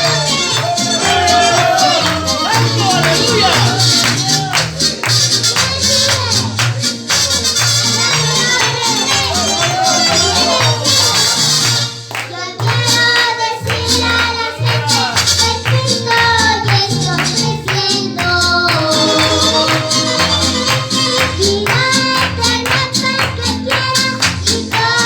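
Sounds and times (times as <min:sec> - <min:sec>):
bass line: 0:00.0 - 0:12.1, 0:12.8 - 0:25.0
song with singing voice: 0:00.0 - 0:25.0.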